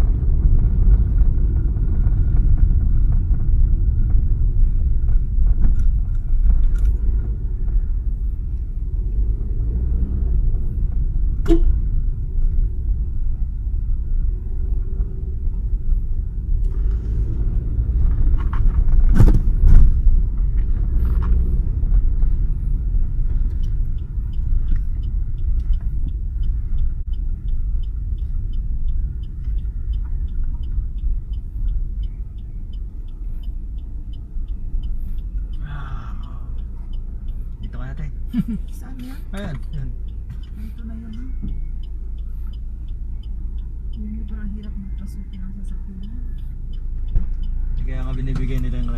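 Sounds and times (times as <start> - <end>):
car road noise rumble: 0.0 - 48.9.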